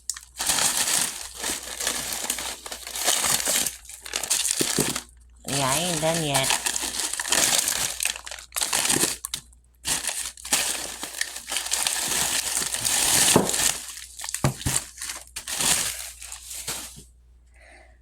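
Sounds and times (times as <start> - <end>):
plastic bags crinkling: 0.0 - 17.1.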